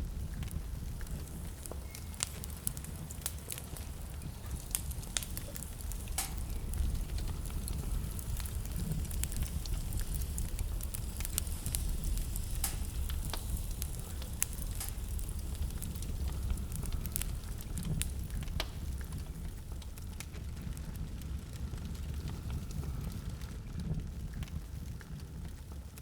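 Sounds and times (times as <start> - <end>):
low rumble of fire: 0.0 - 26.0
wood fire crackling and popping: 0.0 - 26.0.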